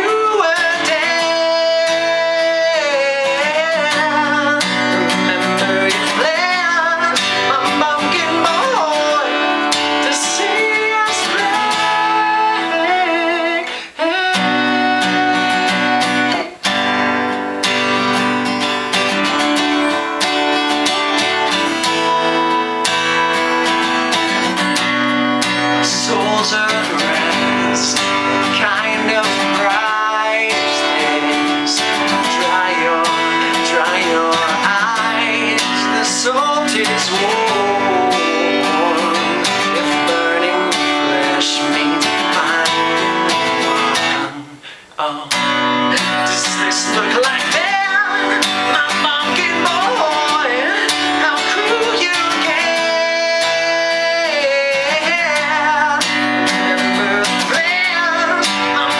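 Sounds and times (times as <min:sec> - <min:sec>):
guitar strummed and picked: 0:00.0 - 0:58.9.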